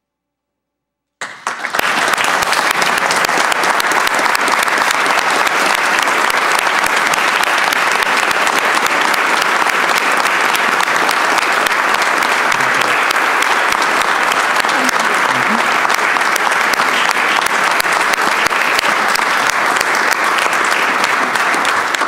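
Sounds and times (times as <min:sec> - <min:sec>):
crowd applauding: 0:01.2 - 0:22.0.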